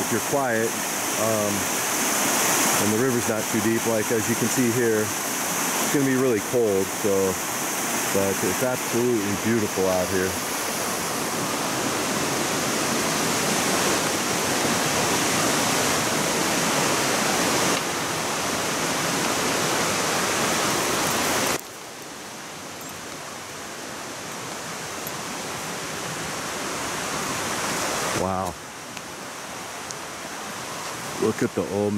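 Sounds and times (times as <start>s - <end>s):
mountain creek rushing: 0.0s - 31.9s.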